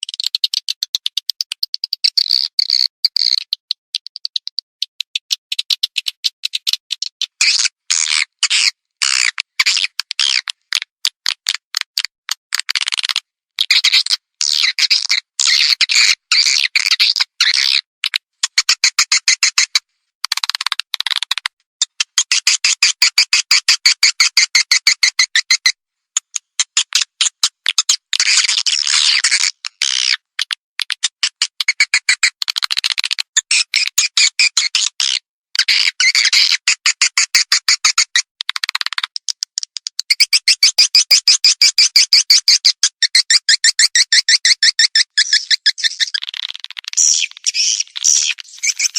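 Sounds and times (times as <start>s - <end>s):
recorded bird chirping and clicks: 0.0s - 48.9s.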